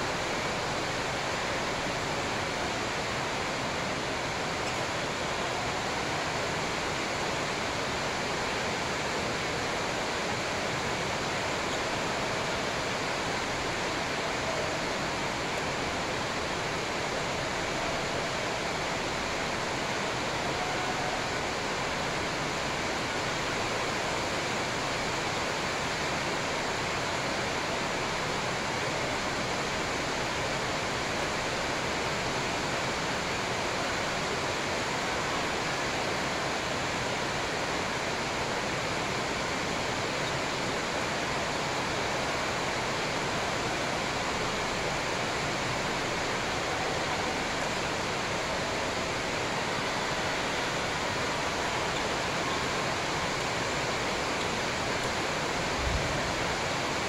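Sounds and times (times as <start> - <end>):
steady rushing hiss: 0.0 - 57.0.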